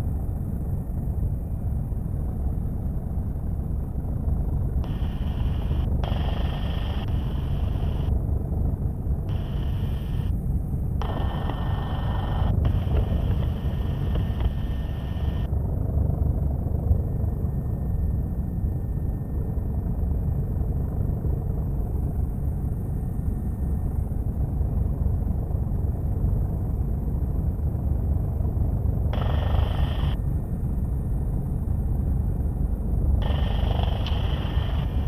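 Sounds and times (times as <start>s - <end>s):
helicopter engine and rotor rumble: 0.0s - 35.0s.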